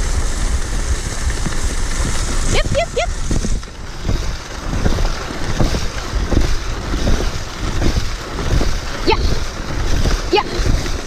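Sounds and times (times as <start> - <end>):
sled runners rushing over snow: 0.0 - 11.0
wind buffeting microphone: 0.0 - 11.0
thumps and scrapes: 1.0 - 11.0.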